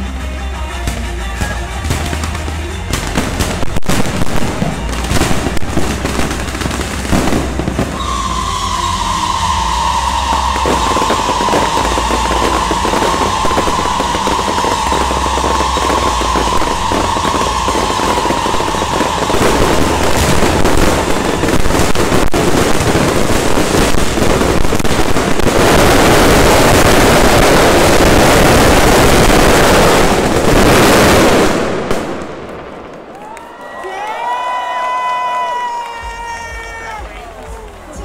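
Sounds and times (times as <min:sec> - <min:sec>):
fireworks crackling and popping: 0:00.0 - 0:38.0.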